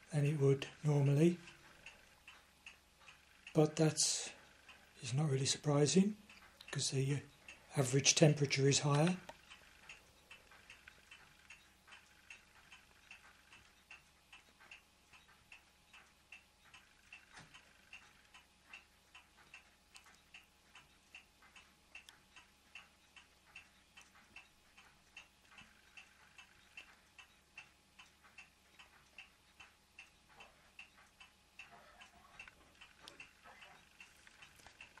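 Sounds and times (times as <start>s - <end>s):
faint steady ticking: 0.0s - 35.0s.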